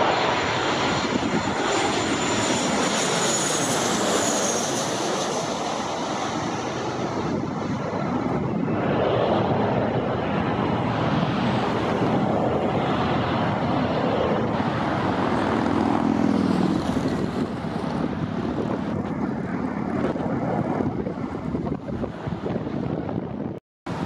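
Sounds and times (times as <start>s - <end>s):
jet engines on approach: 0.0s - 24.0s.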